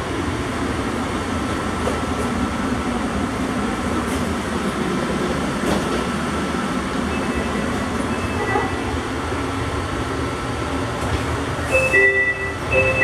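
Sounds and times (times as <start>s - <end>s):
train car hum and rumble: 0.0s - 13.0s.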